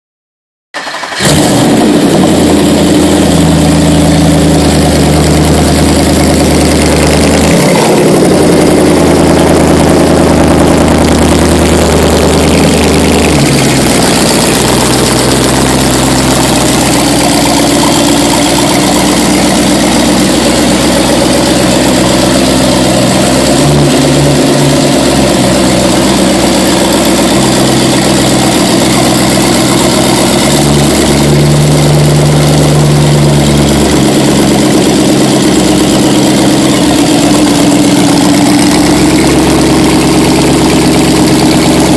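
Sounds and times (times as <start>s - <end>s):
car engine starting and idling: 0.8s - 41.9s.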